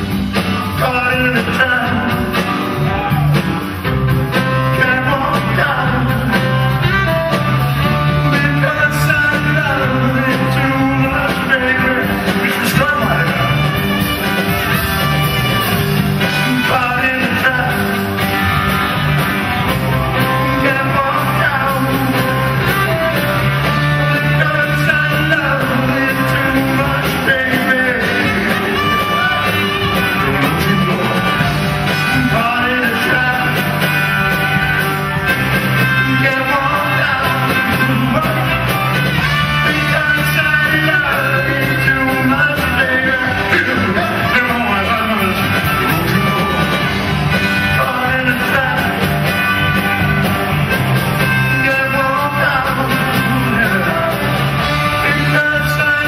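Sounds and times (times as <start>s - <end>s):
male singer: 0.0s - 3.7s, 4.3s - 13.9s, 16.2s - 18.2s, 19.9s - 50.1s, 51.2s - 56.0s
rock band playing: 0.0s - 56.0s.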